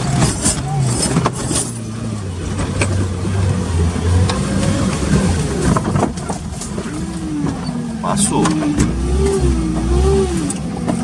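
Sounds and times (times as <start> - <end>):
car engine running under load: 0.0 - 11.0.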